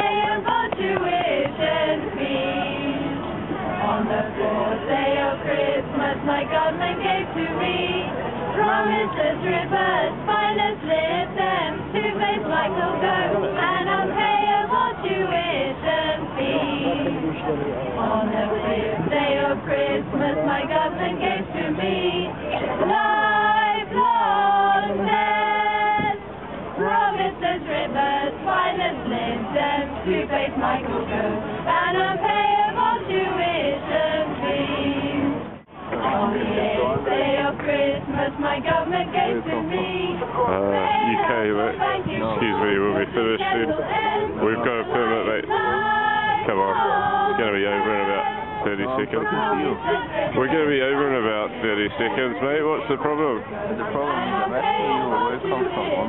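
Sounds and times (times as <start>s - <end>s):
group singing a carol unaccompanied: 0.0s - 56.0s.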